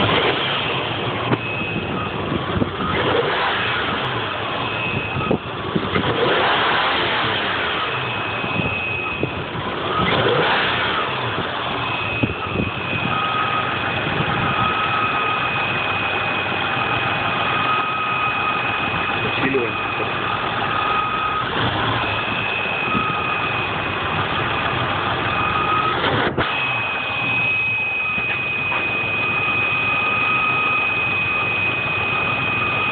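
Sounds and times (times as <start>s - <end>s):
engine running: 0.0s - 32.9s
high thin engine whistle: 2.8s - 5.4s, 6.0s - 32.9s.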